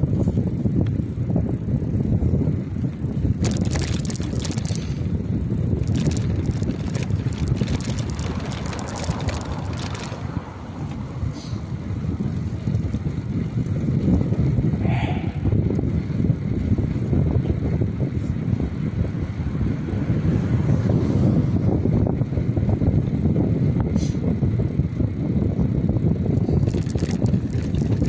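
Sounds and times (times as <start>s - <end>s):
wheels rolling on street: 0.0s - 14.9s, 15.5s - 28.0s
wind on microphone: 0.0s - 28.0s.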